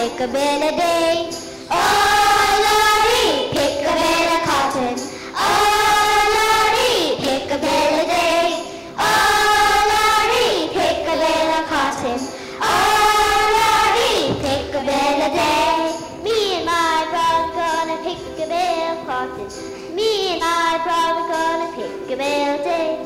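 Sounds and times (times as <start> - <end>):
children singing together: 0.0 - 23.0.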